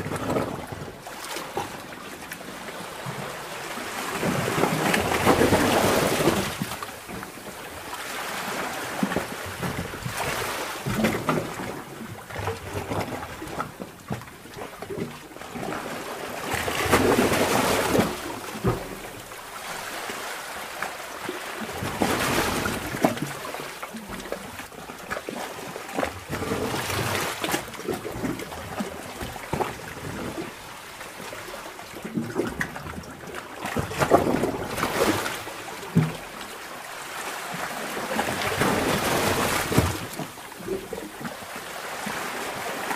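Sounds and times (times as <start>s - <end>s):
seawater surging in cave: 0.0s - 42.9s
water trickling and splashing: 0.0s - 42.9s.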